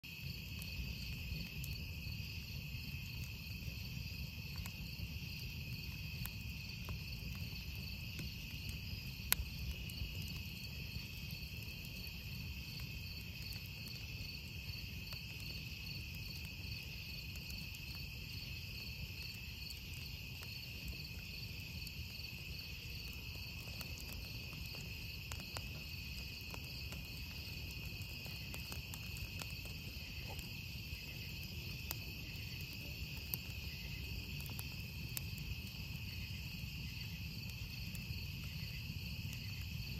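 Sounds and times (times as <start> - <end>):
campfire crackling: 0.0 - 39.9
insects chirping: 0.1 - 39.9.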